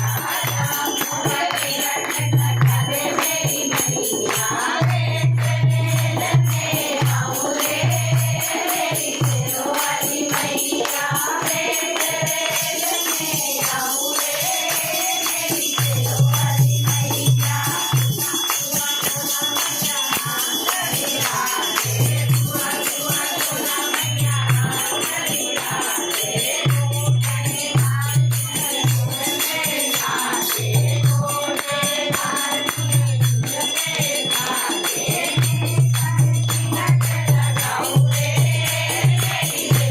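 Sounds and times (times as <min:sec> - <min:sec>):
group singing devotional song: 0:00.0 - 0:39.9
jingling hand percussion: 0:00.0 - 0:39.9.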